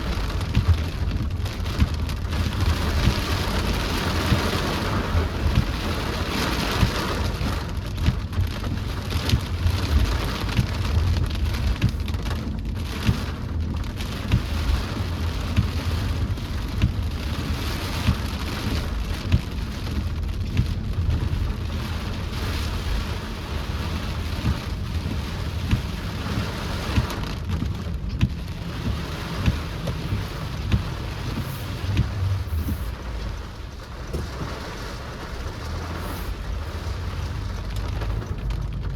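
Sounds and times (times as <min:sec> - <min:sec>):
heavy rain drumming on a car: 0:00.0 - 0:38.9
low driving rumble: 0:00.0 - 0:38.9.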